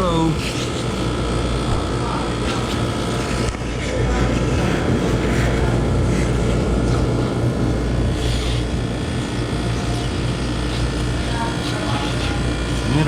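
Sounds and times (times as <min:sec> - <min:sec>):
condenser fan blowing: 0:00.0 - 0:13.0
low refrigeration hum: 0:00.0 - 0:13.0.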